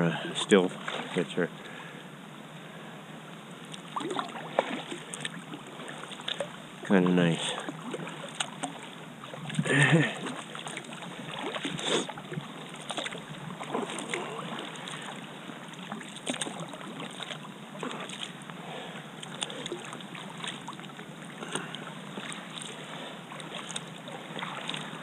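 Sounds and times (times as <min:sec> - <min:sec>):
paddle splashing in water: 0:00.4 - 0:01.9, 0:03.6 - 0:25.0.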